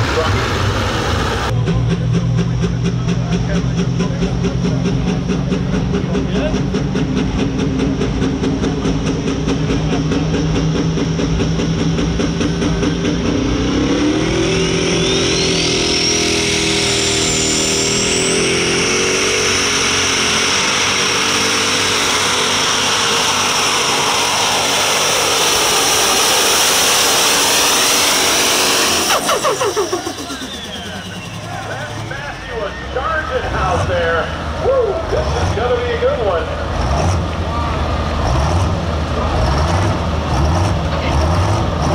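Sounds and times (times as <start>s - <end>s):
rising turbo whine: 0.0s - 36.6s
diesel engine under full load: 0.0s - 41.9s.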